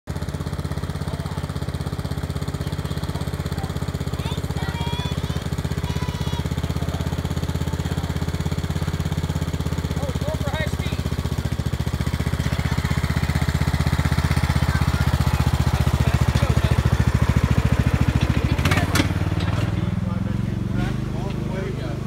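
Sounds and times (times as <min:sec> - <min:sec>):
riding lawn mower engine: 0:00.1 - 0:22.0.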